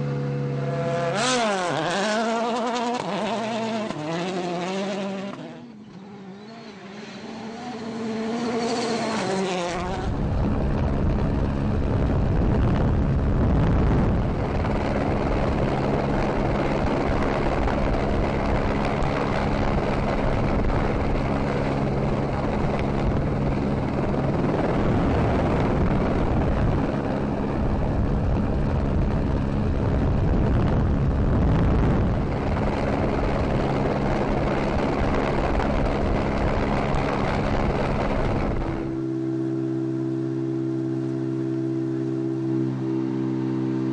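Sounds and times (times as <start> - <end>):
engine revving: 0.0 - 43.9
steady engine and road noise: 0.0 - 43.9.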